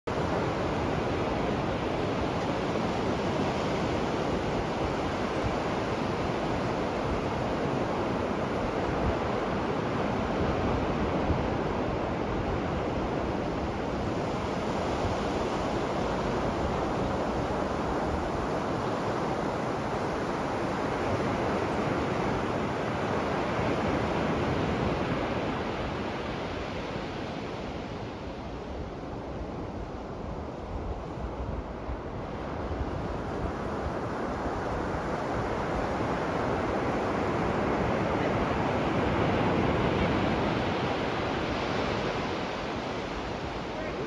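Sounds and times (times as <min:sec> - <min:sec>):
ocean surf on a sandy beach: 0:00.1 - 0:44.0.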